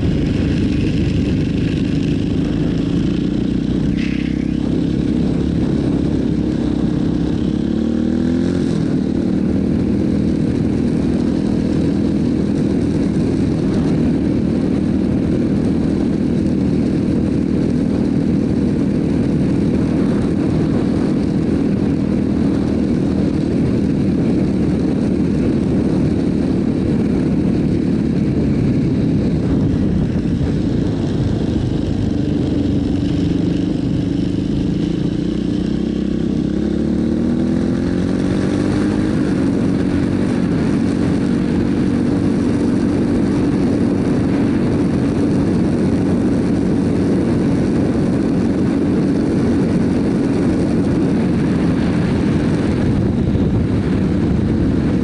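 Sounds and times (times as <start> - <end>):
quad engine running under load: 0.0 - 55.0.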